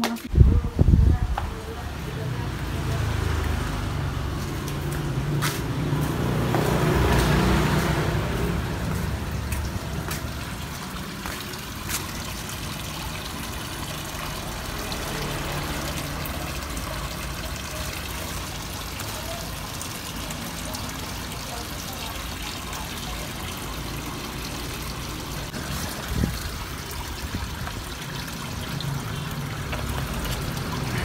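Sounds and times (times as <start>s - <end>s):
water trickling into pond: 0.3s - 31.0s.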